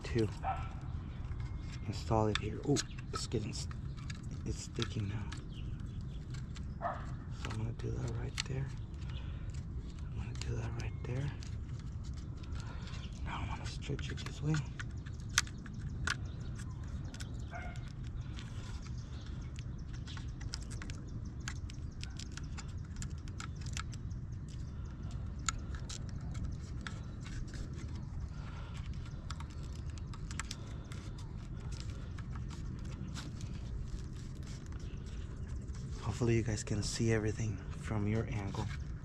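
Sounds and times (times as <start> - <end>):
low background rumble: 0.0 - 39.0
hands clicking and tapping gasket: 1.3 - 37.2.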